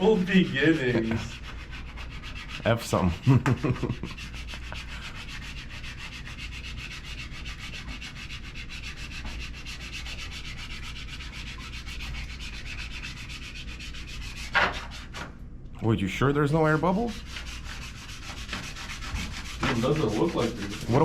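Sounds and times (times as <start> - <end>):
pulsing rubbing scraping noise: 0.0 - 15.2, 16.5 - 21.0.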